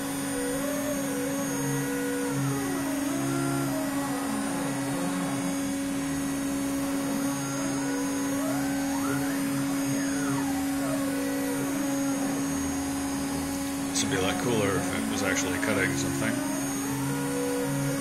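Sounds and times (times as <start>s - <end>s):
axis motors whining: 0.0s - 18.0s
spindle humming: 0.0s - 18.0s.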